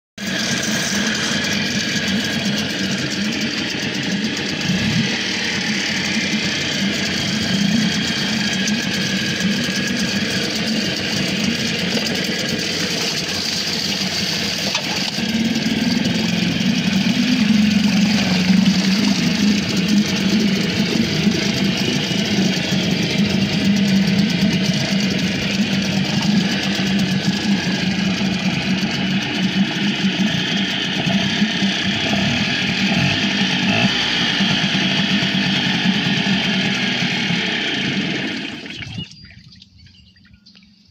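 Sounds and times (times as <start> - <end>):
water churning: 0.2 - 40.8
outboard motor running: 0.2 - 40.9.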